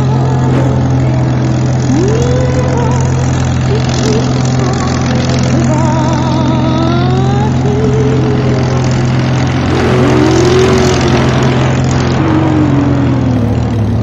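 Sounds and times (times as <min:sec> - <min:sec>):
low engine hum: 0:00.0 - 0:14.0
propeller aircraft engine drone: 0:00.0 - 0:14.0.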